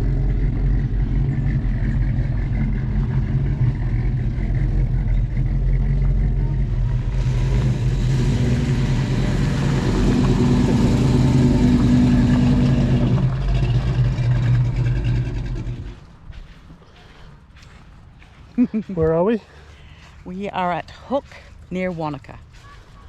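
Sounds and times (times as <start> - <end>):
road and wind noise: 0.0 - 23.0
vehicle engine running: 0.0 - 23.0.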